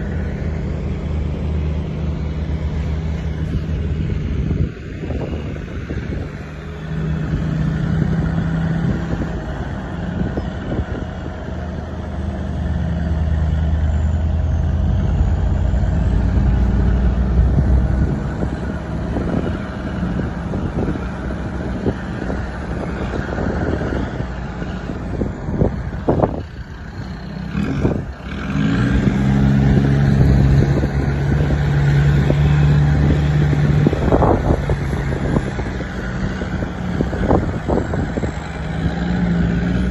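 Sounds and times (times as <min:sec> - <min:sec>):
off-road vehicle engine under load: 0:00.0 - 0:39.9.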